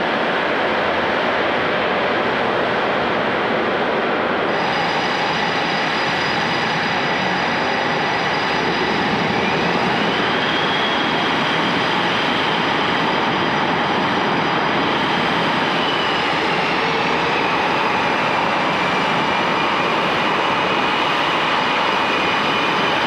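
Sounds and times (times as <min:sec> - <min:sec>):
jet engines whining: 0:00.2 - 0:23.0.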